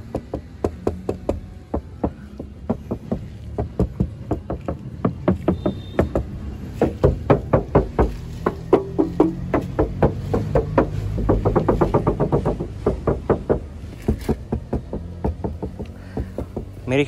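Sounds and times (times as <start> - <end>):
knuckles rapping on metal door: 0.0 - 17.0.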